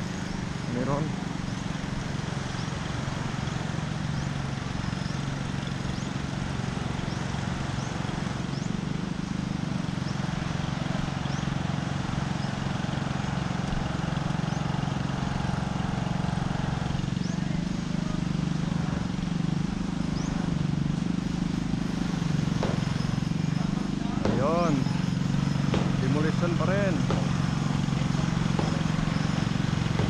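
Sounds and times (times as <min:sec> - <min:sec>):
low motor drone: 0:00.0 - 0:30.0
outdoor noise: 0:00.0 - 0:30.0.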